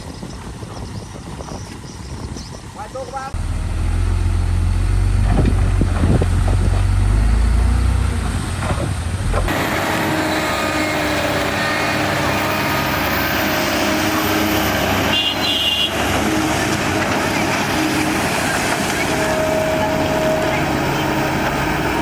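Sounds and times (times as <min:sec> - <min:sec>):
heavy diesel machinery rumbling: 0:02.6 - 0:22.0
noisier engine sound: 0:02.7 - 0:22.0.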